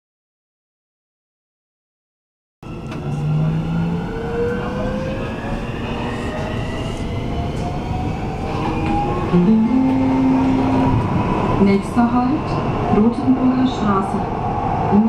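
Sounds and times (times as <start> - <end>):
rumble of wheels on rail: 2.6 - 15.0.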